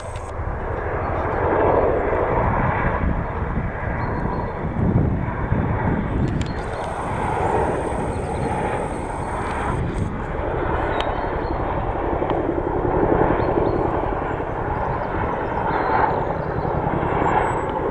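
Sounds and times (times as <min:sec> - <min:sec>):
helicopter rotor blade chop: 0:00.0 - 0:03.9, 0:04.6 - 0:17.9.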